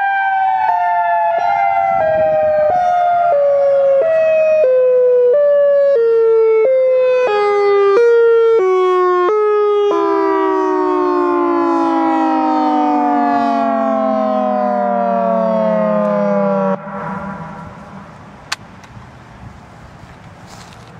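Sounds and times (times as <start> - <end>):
alert siren high and low tones: 0.0 - 18.4.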